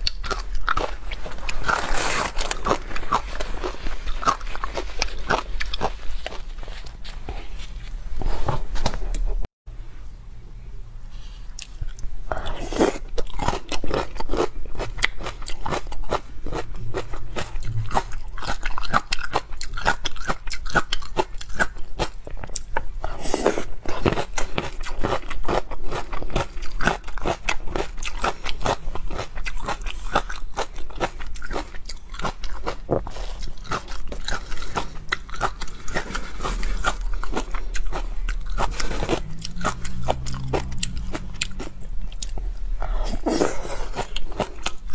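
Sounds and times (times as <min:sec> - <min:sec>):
crunching and chewing: 0:00.0 - 0:07.7, 0:11.2 - 0:44.9.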